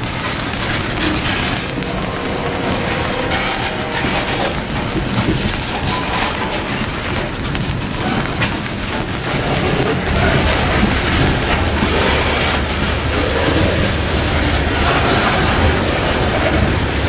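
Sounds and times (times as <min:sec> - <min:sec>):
freight train wheels rumbling: 0:00.0 - 0:17.0
wheels clicking over rail joints: 0:00.0 - 0:17.0.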